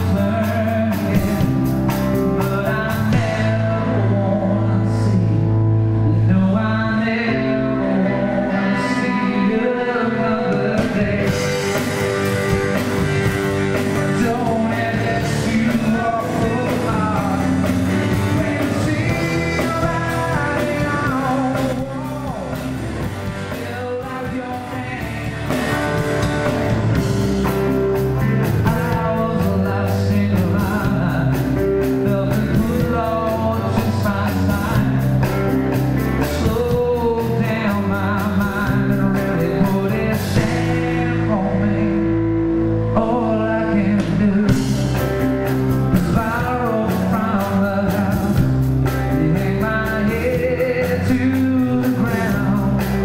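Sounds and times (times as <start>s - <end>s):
bass guitar: 0.0s - 53.0s
electric guitar: 0.0s - 53.0s
man singing: 0.0s - 53.0s.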